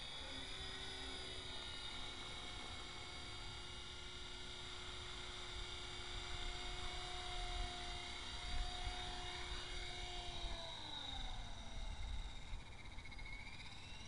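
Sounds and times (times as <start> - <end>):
rc helicopter motor and rotors whining: 0.0 - 14.0.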